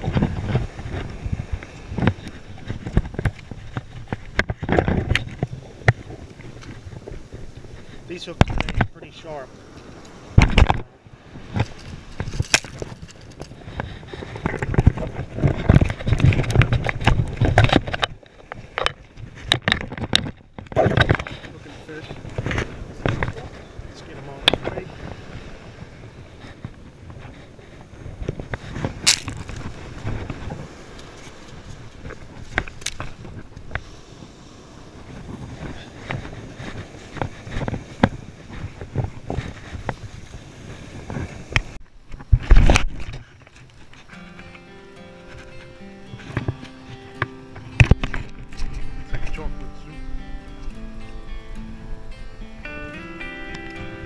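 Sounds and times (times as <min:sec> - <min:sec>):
fishing tackle clicking and rustling: 0:00.0 - 0:09.0, 0:09.6 - 0:34.4, 0:35.2 - 0:49.7
surf washing: 0:00.0 - 0:54.0
wind buffeting microphone: 0:00.0 - 0:54.0.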